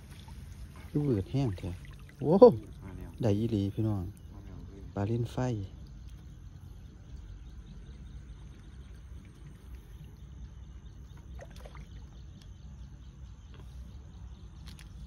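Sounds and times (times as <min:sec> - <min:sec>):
shallow water sloshing: 0:00.0 - 0:12.8
low steady rumble: 0:00.0 - 0:14.6.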